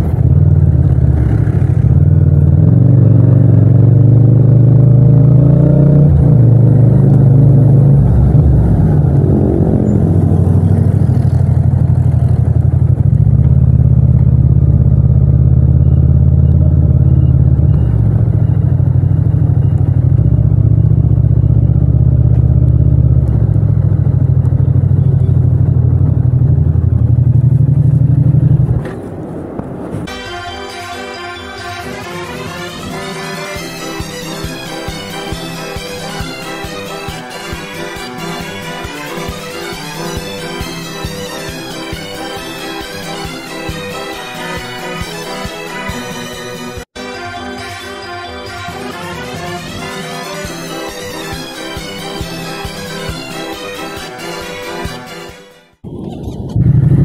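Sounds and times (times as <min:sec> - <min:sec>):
motorcycle engine revving: 0:00.0 - 0:29.0, 0:31.7 - 0:46.9, 0:48.5 - 0:57.0.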